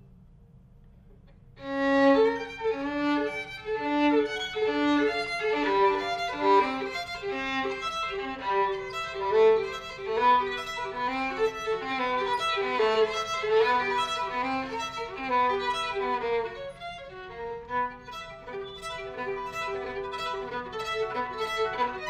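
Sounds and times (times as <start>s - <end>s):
violin playing classical passage: 1.6s - 22.0s.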